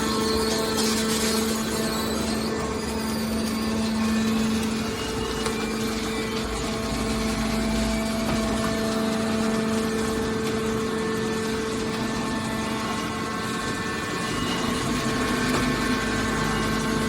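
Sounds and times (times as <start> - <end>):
hydraulic machine hum: 0.0 - 17.0.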